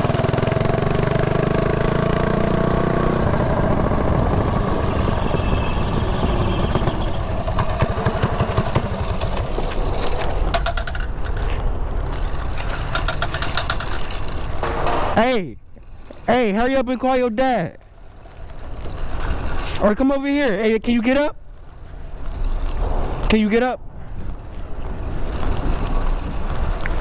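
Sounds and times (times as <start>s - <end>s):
small bike engine running: 0.0s - 27.0s.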